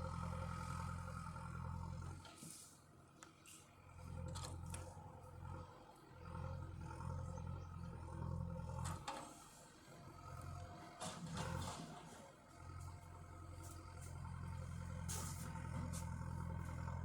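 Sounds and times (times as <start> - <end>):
tractor engine droning under load: 0.0 - 3.1, 3.7 - 17.0.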